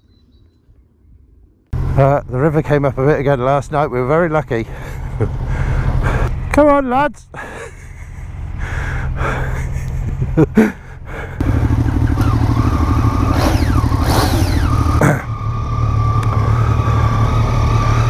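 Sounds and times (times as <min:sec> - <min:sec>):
motorcycle engines rumbling: 0:01.8 - 0:18.0.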